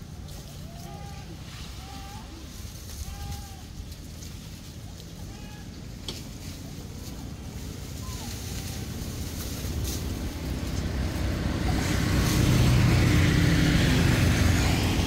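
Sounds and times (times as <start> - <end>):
vehicle engine approaching: 0.0 - 15.0.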